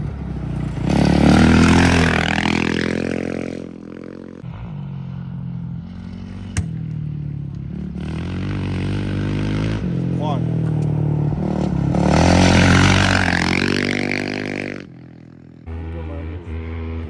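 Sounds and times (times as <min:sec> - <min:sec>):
approaching motorcycle engine: 0:00.0 - 0:17.0
motorcycle engine revving: 0:00.0 - 0:17.0.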